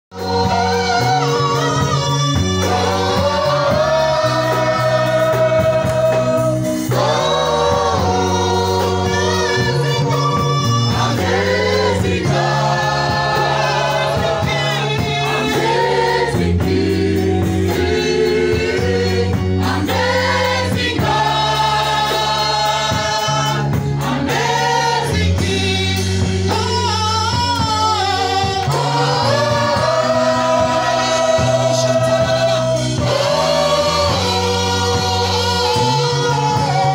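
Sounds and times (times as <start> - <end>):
backing singers: 0.1 - 36.9
band with steady bass line: 0.1 - 36.9.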